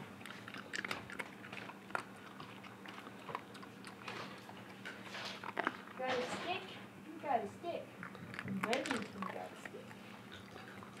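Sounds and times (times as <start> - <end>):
dog chewing on a stick: 0.0 - 6.8, 7.6 - 11.0.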